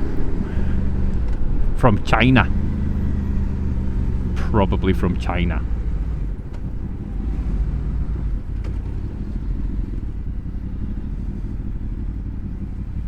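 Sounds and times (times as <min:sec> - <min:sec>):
motorcycle engine rumbling: 0:00.0 - 0:13.0
road noise: 0:00.0 - 0:13.0.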